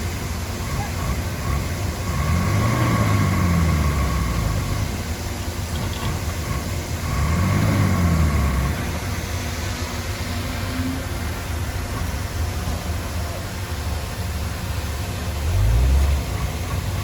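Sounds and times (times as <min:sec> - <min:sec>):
diesel machine engine revving: 0:00.0 - 0:17.0.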